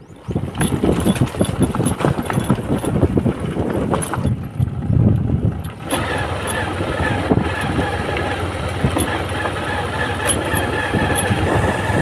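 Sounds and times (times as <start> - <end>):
motorcycle engine running: 0.0 - 12.0
knocks and rattles: 0.2 - 12.0.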